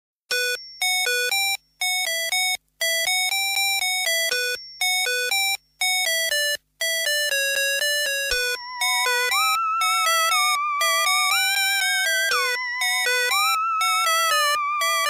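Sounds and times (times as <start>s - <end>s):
electronic beeping melody: 2.0s - 15.0s.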